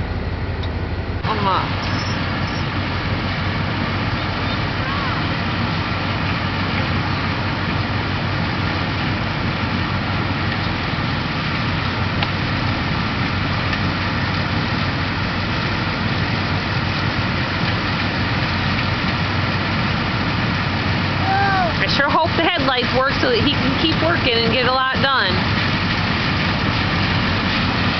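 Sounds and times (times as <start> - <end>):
combine harvester running: 0.0 - 27.9.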